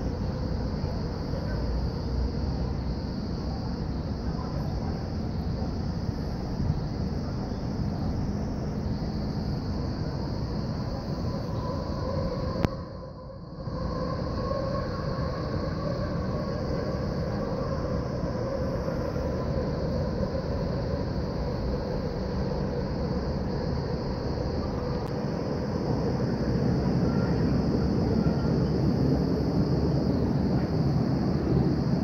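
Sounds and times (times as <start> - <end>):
distant city and rail traffic: 0.0 - 32.0
faint steady hum: 0.0 - 32.0.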